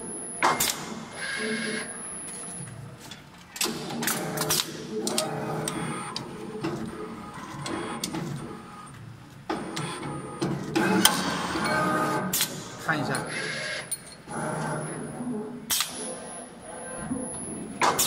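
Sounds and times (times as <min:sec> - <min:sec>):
machine motors whirring: 0:03.5 - 0:18.0.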